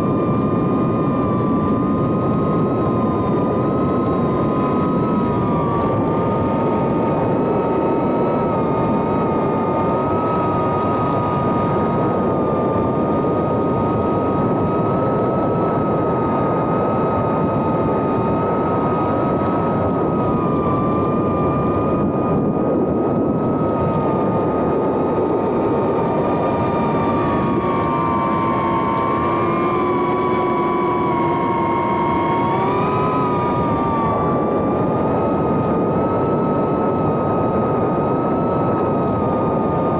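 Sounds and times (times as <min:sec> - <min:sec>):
drone motors whining: 0:01.4 - 0:39.9.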